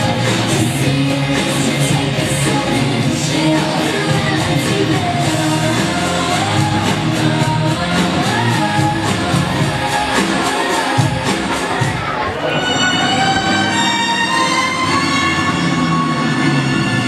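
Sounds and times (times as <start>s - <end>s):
song with band and singing: 0.0s - 17.0s.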